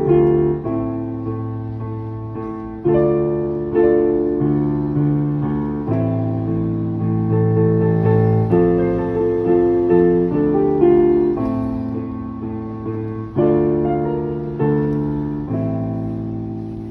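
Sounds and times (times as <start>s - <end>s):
digital piano chords: 0.0s - 16.9s.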